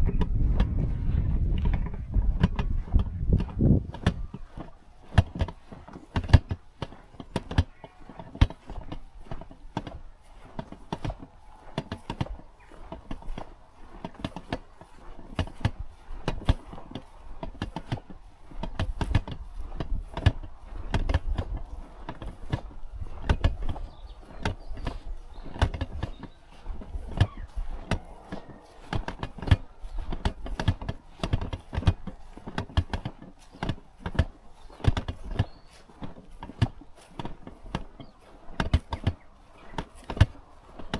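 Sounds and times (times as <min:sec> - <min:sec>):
footsteps on leaf litter and twigs: 0:03.6 - 0:40.9.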